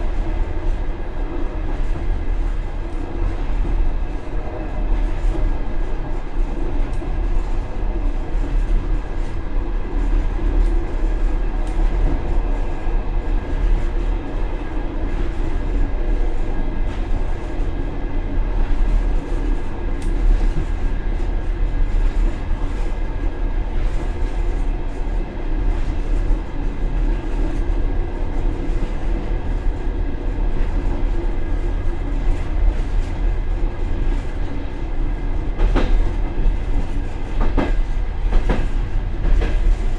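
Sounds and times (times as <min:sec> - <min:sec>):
train coach rumbling: 0:00.0 - 0:39.9.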